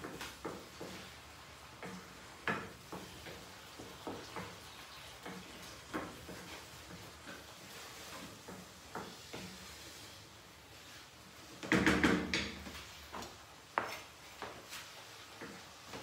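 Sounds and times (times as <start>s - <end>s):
wooden spatula scraping frying pan: 0.0s - 16.0s.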